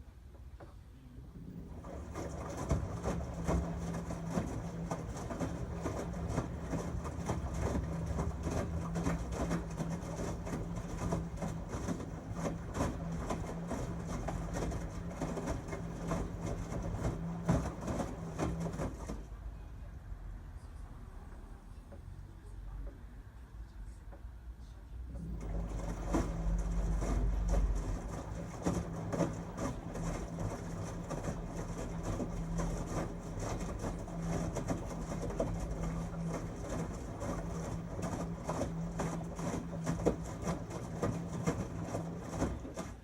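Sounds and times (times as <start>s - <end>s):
washing machine motor hum: 0.0s - 24.3s, 24.9s - 43.0s.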